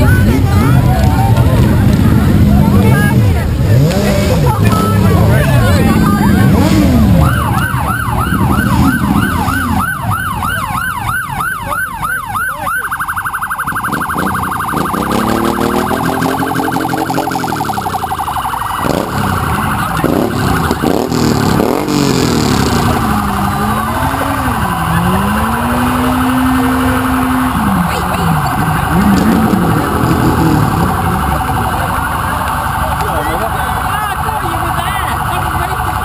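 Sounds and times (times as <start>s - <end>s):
motorcycle engines revving: 0.0s - 36.0s
electronic police siren: 4.6s - 36.0s.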